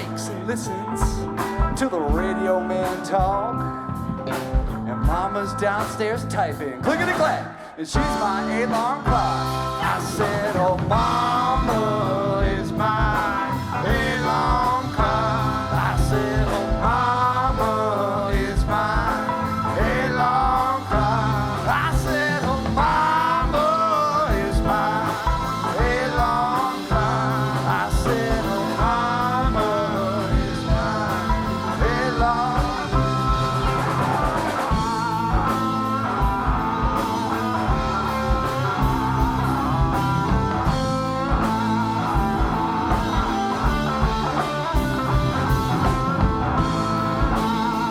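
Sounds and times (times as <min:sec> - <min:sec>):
band playing bluesy rock: 0:00.0 - 0:47.9
sliding guitar lead line: 0:00.0 - 0:47.9.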